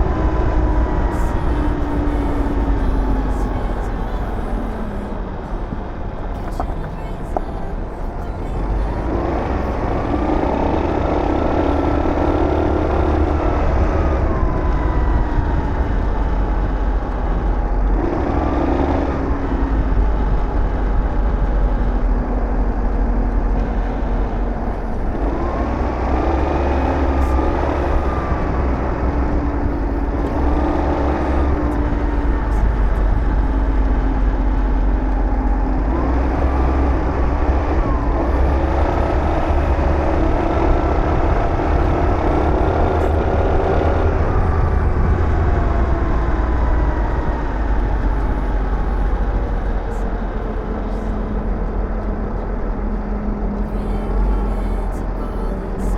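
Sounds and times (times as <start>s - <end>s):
low wind rumble: 0.0s - 55.9s.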